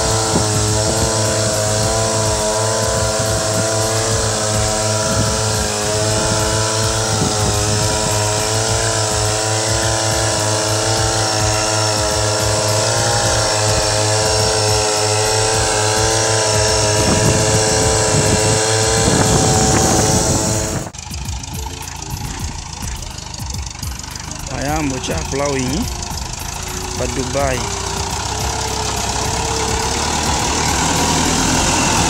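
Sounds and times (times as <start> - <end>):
rough rattle: 0.0 - 32.0
small engine humming: 0.0 - 32.0.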